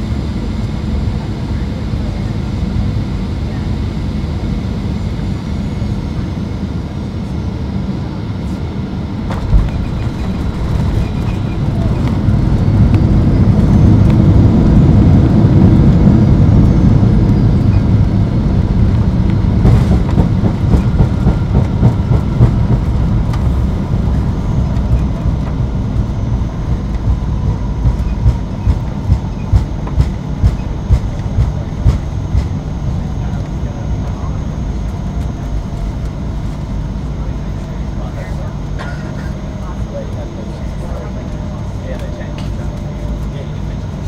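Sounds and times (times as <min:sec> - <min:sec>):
aircraft engines and wheels rumbling: 0:00.0 - 0:44.0.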